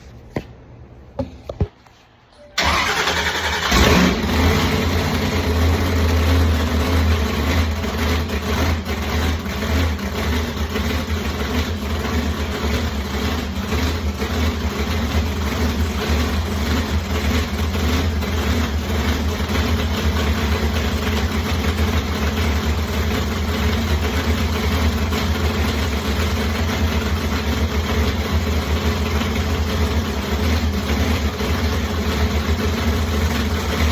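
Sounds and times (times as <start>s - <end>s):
car engine cranking and idling: 2.6s - 33.9s.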